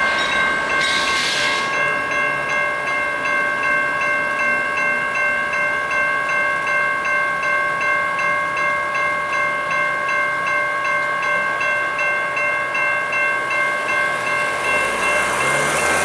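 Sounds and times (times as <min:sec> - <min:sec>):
crossing warning bell ringing: 0:00.0 - 0:16.0.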